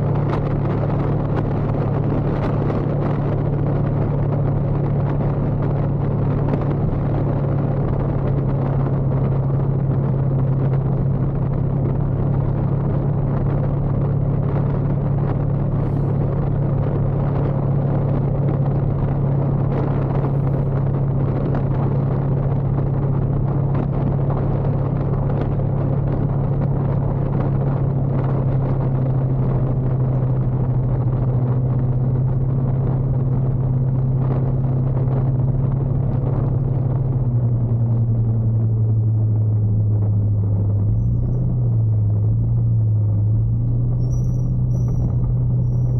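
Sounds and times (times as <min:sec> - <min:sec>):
motorcycle engine droning: 0:00.0 - 0:45.9
road noise: 0:00.0 - 0:45.9
wind noise: 0:00.0 - 0:45.9.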